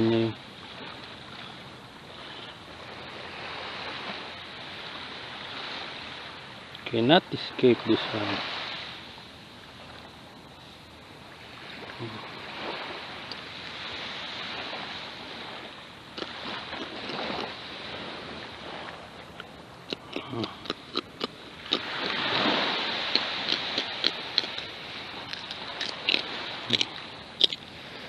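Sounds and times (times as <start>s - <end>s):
waves washing on a beach: 0.0s - 28.0s.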